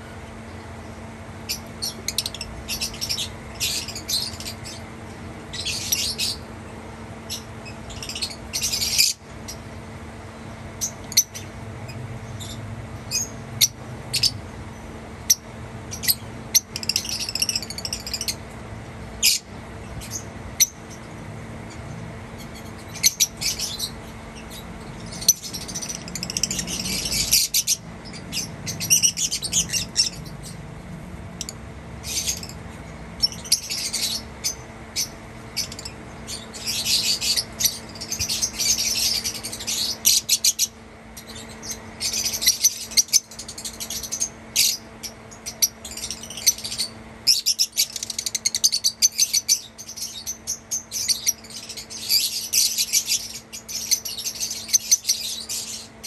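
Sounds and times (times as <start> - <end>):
lovebirds chirping: 0.2 - 6.5, 7.2 - 9.7, 10.5 - 56.0.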